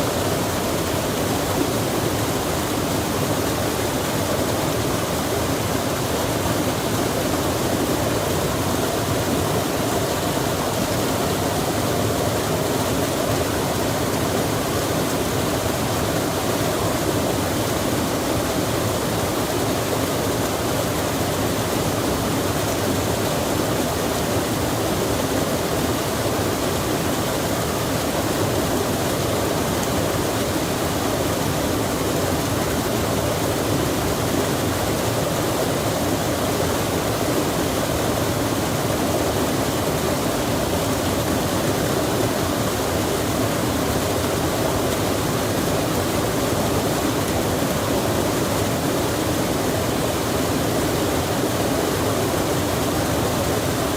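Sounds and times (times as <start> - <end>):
rain falling on water: 0.0 - 53.9
stream running: 0.0 - 53.9.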